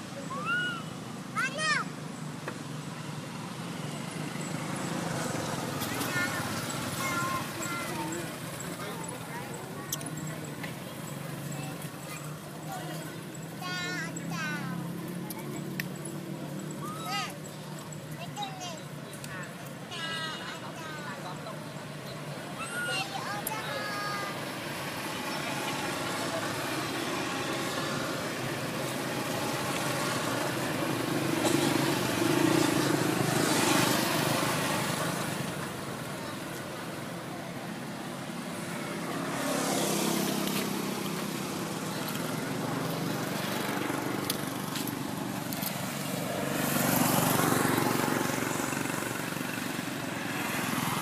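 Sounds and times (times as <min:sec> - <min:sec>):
motor vehicles passing by: 0:00.0 - 0:51.0.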